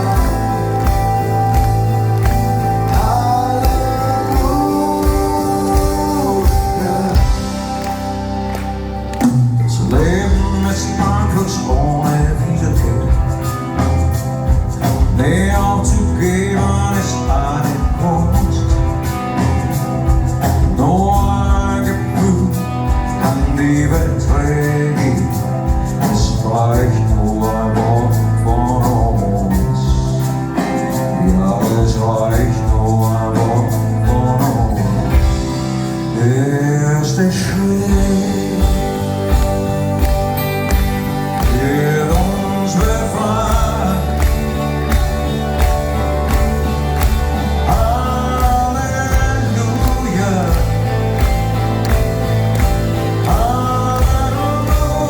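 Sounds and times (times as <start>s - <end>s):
live rock ballad with guitar: 0.0s - 55.0s.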